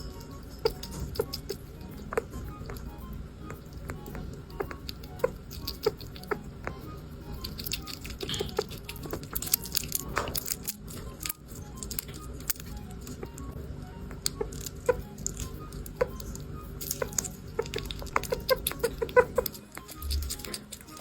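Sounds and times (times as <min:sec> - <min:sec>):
small animal chewing: 0:00.0 - 0:21.0
soft background music: 0:00.0 - 0:21.0.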